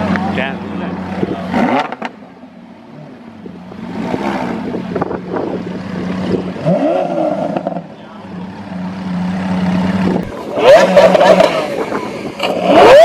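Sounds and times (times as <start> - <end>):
engine revving: 0.0 - 2.2, 2.9 - 13.0.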